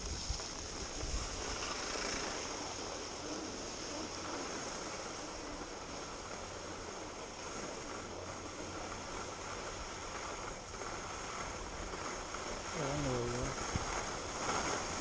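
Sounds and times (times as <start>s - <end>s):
wind on microphone: 0.0s - 5.9s, 7.6s - 15.0s
skis sliding over snow: 0.0s - 15.0s.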